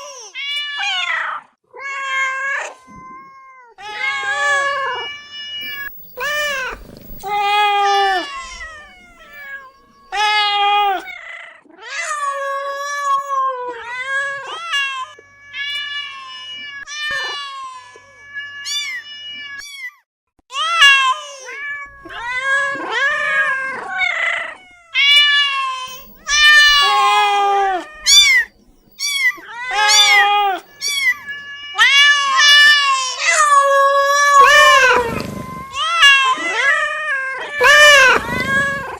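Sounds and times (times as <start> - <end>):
cats meowing: 0.0 - 20.0, 20.6 - 38.9.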